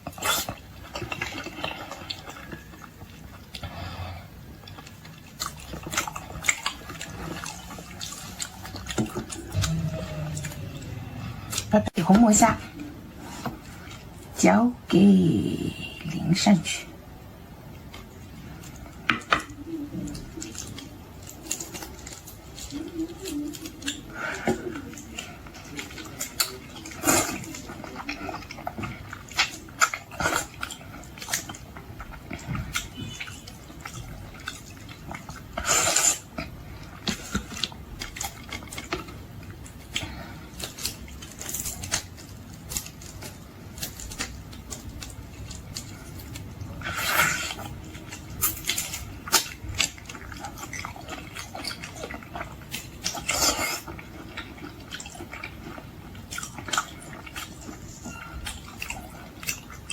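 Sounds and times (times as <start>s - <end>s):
wet chewing and lip-smacking: 0.0s - 14.3s, 17.7s - 59.9s.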